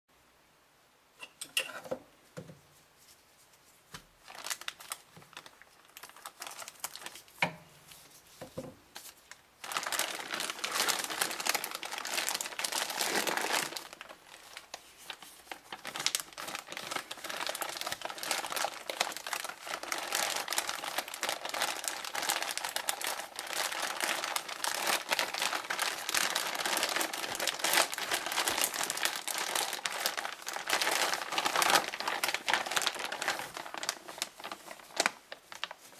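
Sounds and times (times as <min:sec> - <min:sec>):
plastic bags crinkling: 0:04.2 - 0:07.6, 0:08.5 - 0:35.9.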